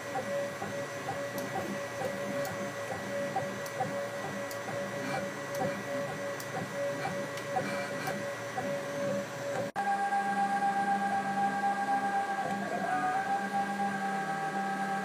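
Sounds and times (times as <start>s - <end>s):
machine whine with soft pulses: 0.0s - 15.0s.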